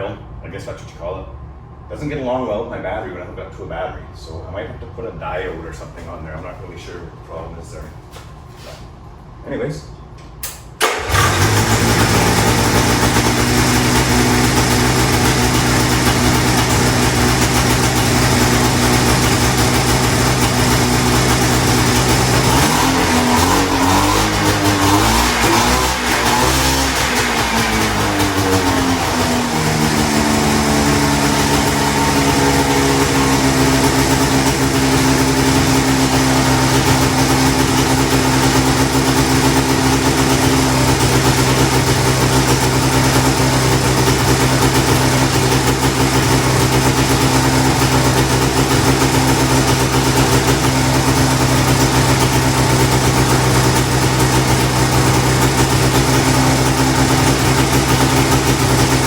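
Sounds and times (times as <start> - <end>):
snowmobile engine idling: 10.8 - 59.0.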